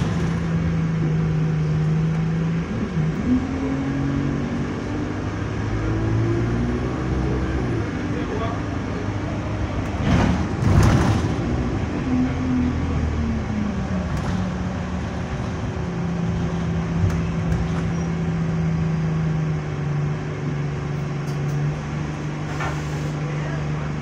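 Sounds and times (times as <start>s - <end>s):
bus engine droning: 0.0s - 24.0s.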